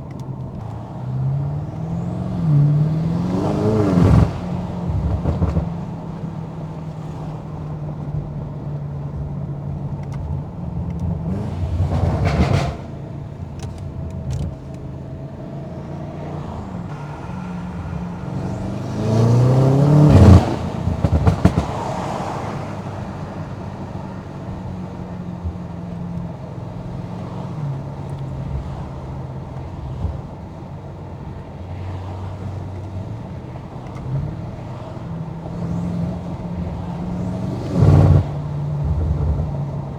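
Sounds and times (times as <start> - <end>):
exhaust pops and crackles: 0.0 - 1.1, 3.4 - 39.9
car engine revving: 0.0 - 39.9.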